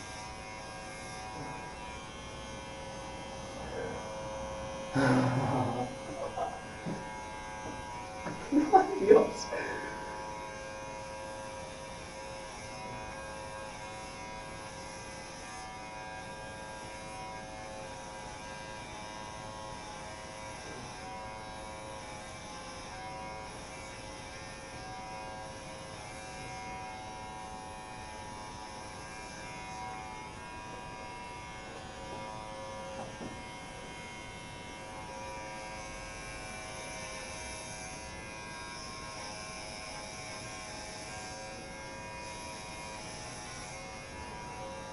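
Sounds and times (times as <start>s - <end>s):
electric shaver buzzing: 0.0s - 44.9s.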